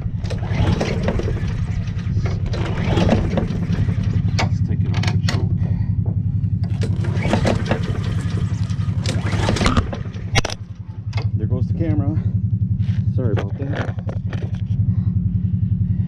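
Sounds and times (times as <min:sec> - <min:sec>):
lawnmower engine running: 0:00.0 - 0:15.1.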